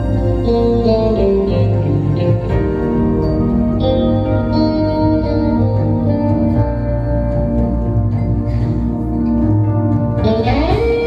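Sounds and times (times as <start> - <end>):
electric guitar melody: 0.0 - 11.0
keyboard accompaniment: 0.0 - 11.0
low bass: 0.0 - 11.0.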